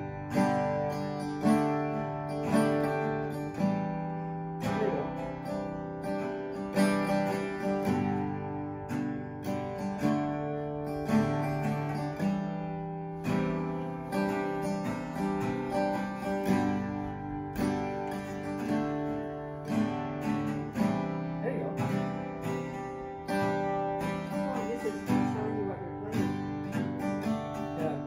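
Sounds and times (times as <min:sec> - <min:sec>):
acoustic guitars strumming: 0:00.0 - 0:28.0.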